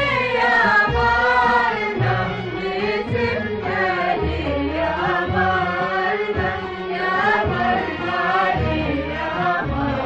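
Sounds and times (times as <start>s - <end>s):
string section melody: 0.0s - 10.0s.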